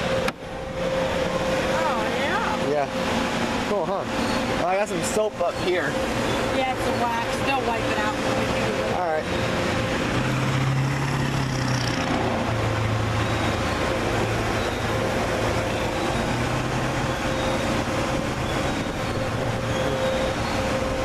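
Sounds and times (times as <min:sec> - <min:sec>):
car wash rushing noise: 0:00.0 - 0:21.0
low hum: 0:00.0 - 0:21.0
thin steady whine: 0:00.0 - 0:21.0.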